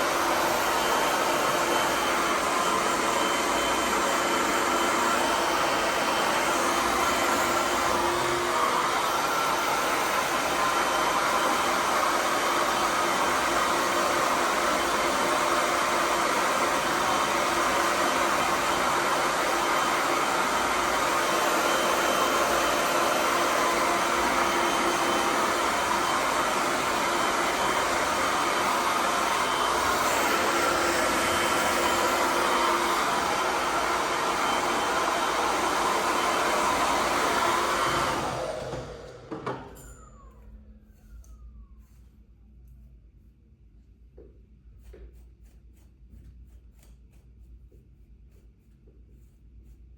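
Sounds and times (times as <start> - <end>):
hairdryer blowing air: 0.0 - 40.5.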